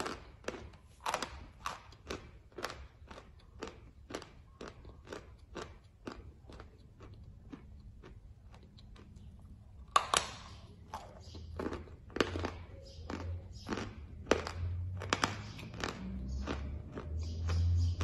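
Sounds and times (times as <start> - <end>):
chewing chalk crunches: 0.0 - 18.0.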